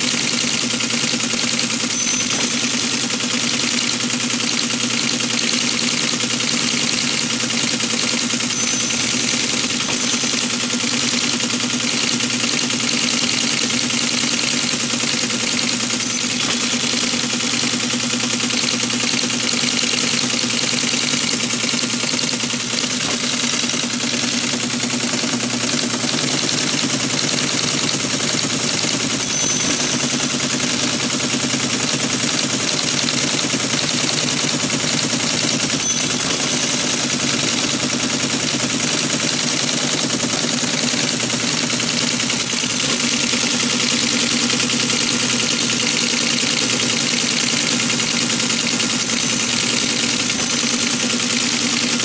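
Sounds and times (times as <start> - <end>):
teletype terminal motor humming: 0.0 - 52.0.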